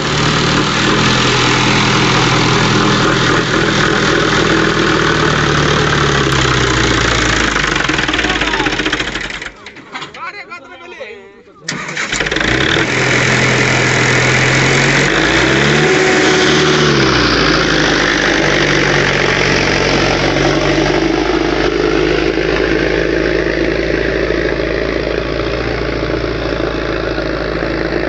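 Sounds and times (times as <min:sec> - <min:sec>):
tractor diesel engine running: 0:00.0 - 0:10.2, 0:11.7 - 0:28.0.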